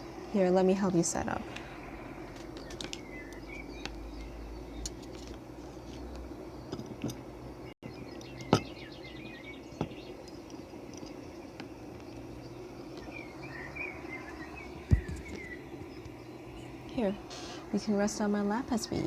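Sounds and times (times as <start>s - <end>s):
small birds chirping: 0.4s - 19.0s.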